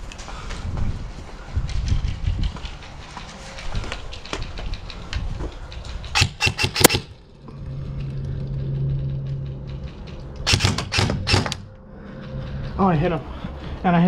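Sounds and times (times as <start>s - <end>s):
steady low hum: 0.3s - 14.0s.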